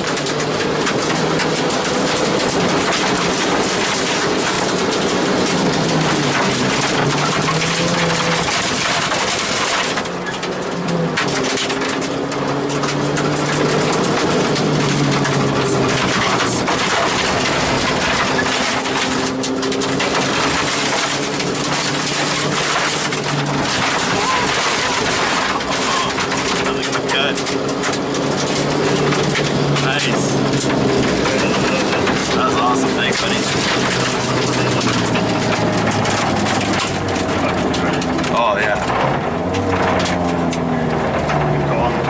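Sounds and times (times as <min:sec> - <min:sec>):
rally car engine revving: 0:00.0 - 0:42.0
rattling clatter of car and road: 0:00.0 - 0:42.0.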